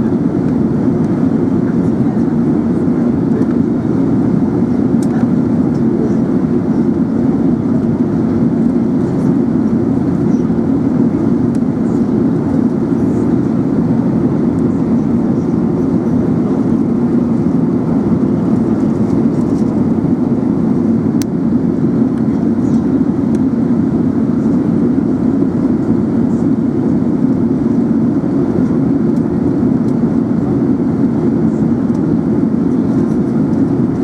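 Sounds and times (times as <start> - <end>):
airliner cabin engine noise: 0.0 - 34.0.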